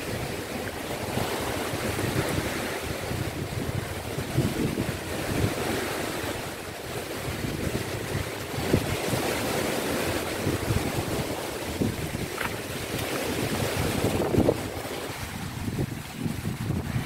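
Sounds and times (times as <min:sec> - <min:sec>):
sea waves on shore: 0:00.0 - 0:17.0
wind buffeting microphone: 0:00.0 - 0:17.0.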